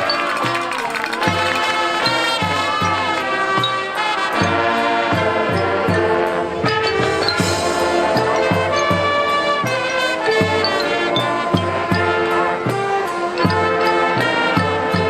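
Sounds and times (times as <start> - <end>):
brass holding sustained chords: 0.0 - 15.0
steady drum beat: 0.0 - 15.0.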